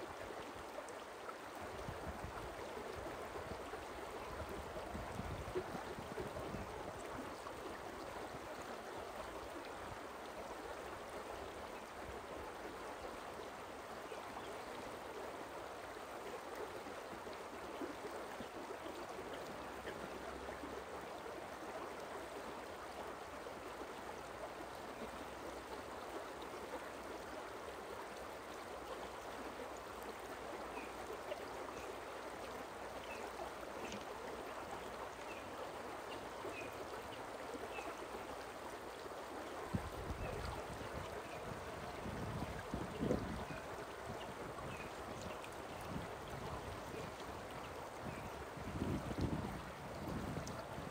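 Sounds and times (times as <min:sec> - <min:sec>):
stream flowing over rocks: 0:00.0 - 0:50.9.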